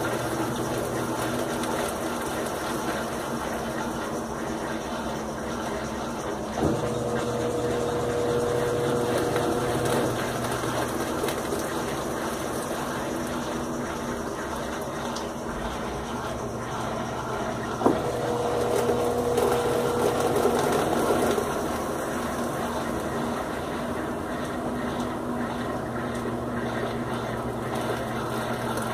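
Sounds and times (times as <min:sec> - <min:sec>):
washing machine churning: 0:00.0 - 0:28.9
motor whine: 0:03.2 - 0:28.9.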